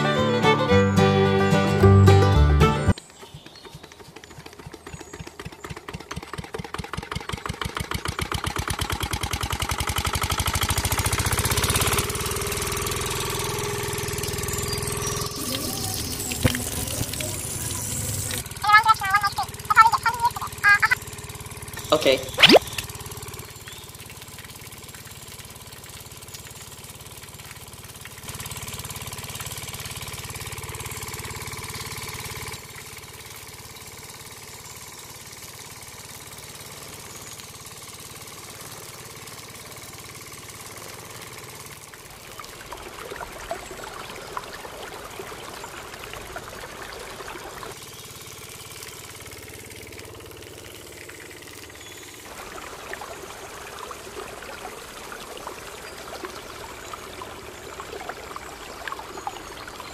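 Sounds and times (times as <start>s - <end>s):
small water pump motor running: 0.0s - 59.9s
water splashing into dirt channel: 3.3s - 59.9s.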